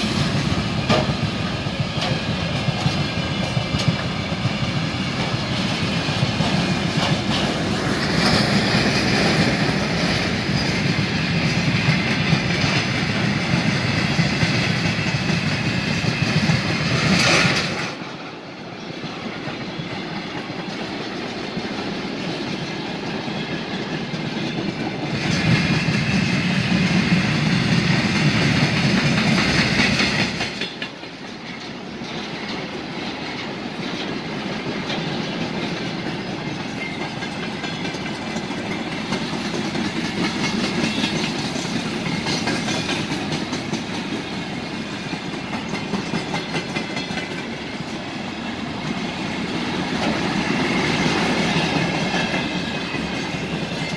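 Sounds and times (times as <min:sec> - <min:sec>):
freight train rumbling past: 0:00.0 - 0:53.9
wheels clacking over rail joints: 0:00.0 - 0:53.9.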